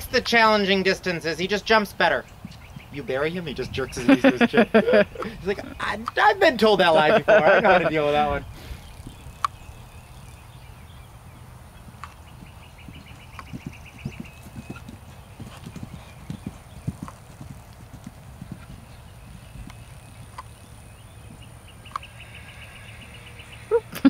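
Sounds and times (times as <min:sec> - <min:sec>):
hooves thudding on grass: 0:00.0 - 0:22.3.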